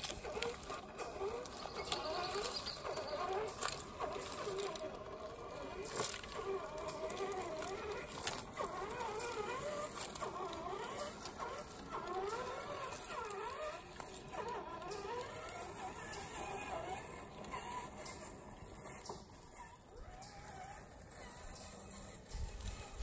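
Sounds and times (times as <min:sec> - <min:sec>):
electric motor whining: 0:00.0 - 0:23.0
tyres and chassis clicking: 0:00.0 - 0:23.0.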